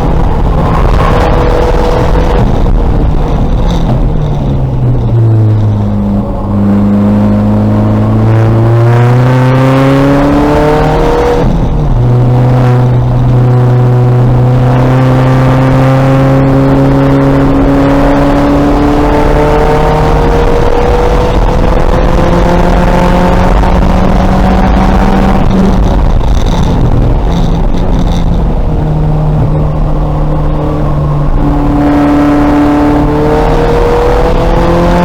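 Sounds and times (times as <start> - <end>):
race car engine under throttle: 0.0 - 35.0.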